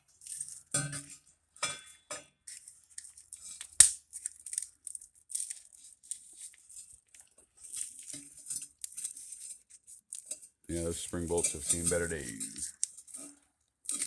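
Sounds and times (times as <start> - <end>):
metal parts scraping and clinking: 2.5 - 14.0.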